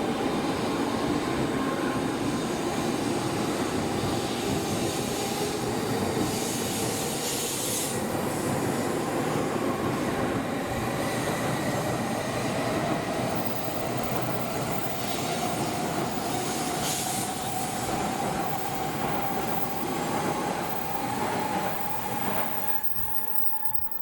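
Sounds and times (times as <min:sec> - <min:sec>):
train running noise: 0:00.0 - 0:24.0.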